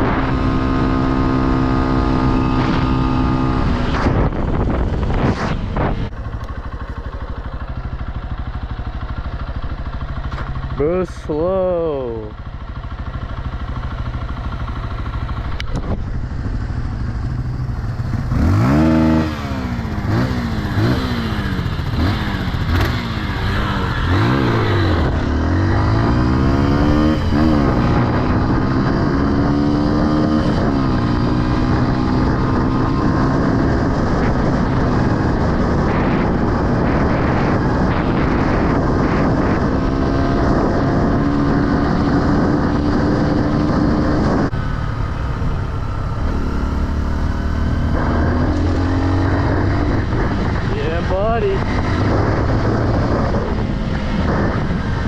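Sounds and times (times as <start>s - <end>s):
dirt bike engine accelerating: 0.0s - 55.0s.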